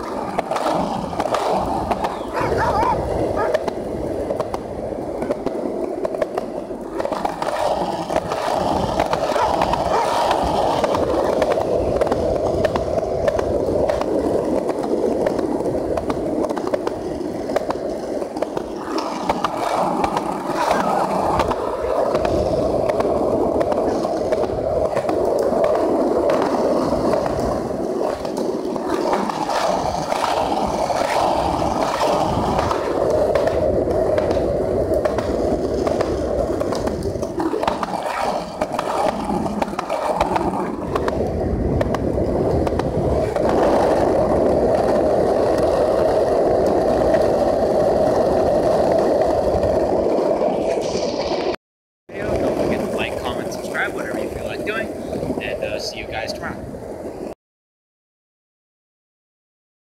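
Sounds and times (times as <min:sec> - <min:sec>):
wheels clicking over joints: 0:00.0 - 0:51.1
skateboard wheels rolling on concrete: 0:00.0 - 0:57.4.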